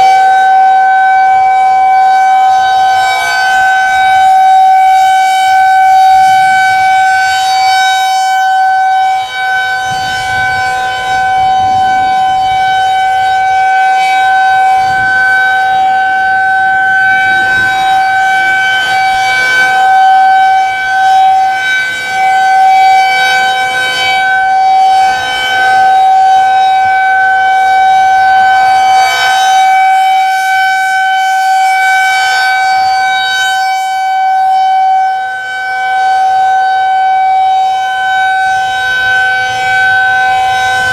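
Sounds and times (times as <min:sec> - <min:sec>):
tornado siren steady tone: 0:00.0 - 0:40.9.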